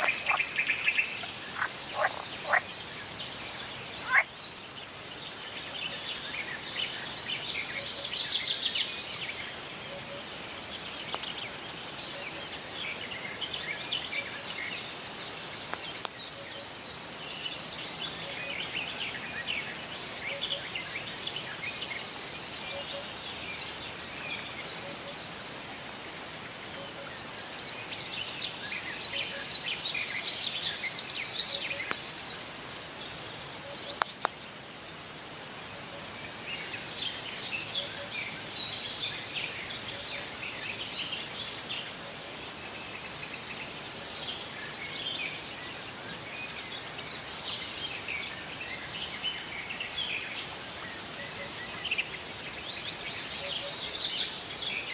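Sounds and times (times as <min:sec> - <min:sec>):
wild birds singing: 0:00.0 - 0:34.7, 0:35.6 - 0:54.9
steady background hiss: 0:00.0 - 0:54.9.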